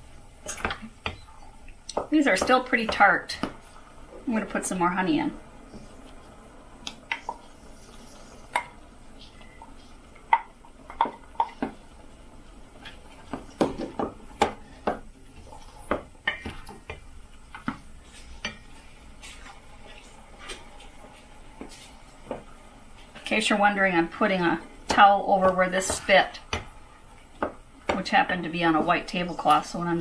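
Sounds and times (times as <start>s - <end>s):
spoon stirring cranberries in pan: 1.9s - 30.0s.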